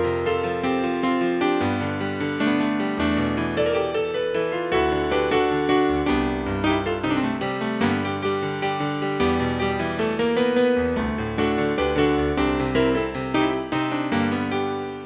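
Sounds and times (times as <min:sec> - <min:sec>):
keyboard playing piano chords: 0:00.0 - 0:15.0.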